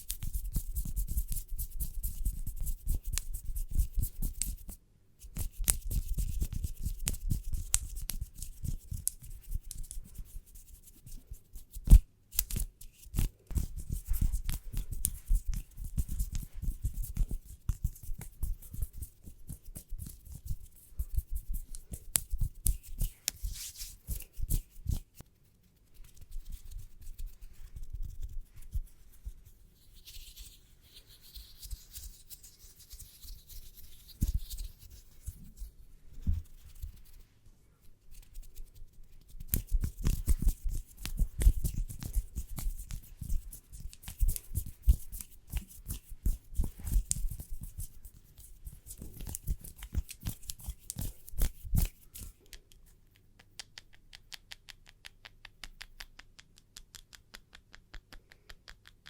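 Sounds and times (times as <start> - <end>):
hands rubbing and scratching: 0.0 - 57.5.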